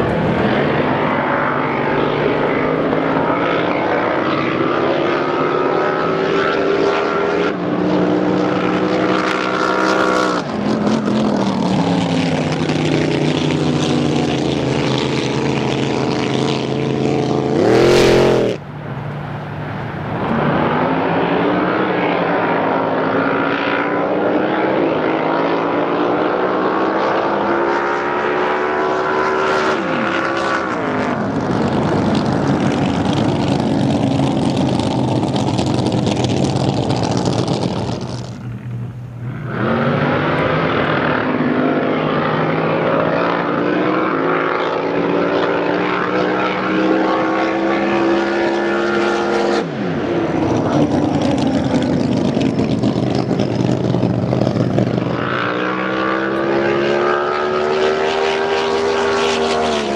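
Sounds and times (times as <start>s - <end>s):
drag boat engines high-revving drone: 0.0s - 18.9s, 20.1s - 59.9s.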